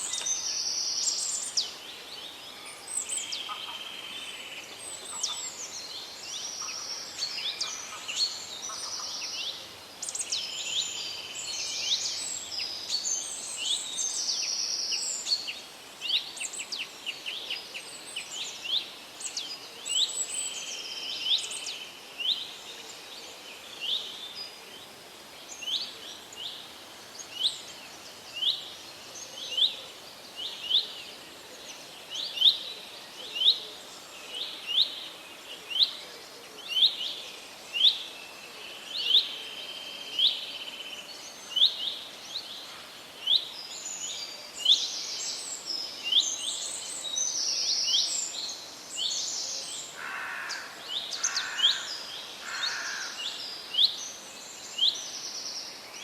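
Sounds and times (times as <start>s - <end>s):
birds singing: 0.0s - 56.0s
faint steady hiss: 0.0s - 56.0s.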